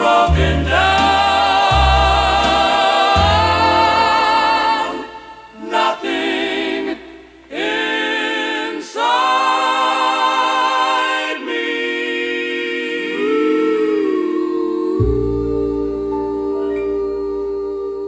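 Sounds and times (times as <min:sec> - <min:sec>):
wordless vocal harmony: 0:00.0 - 0:18.0.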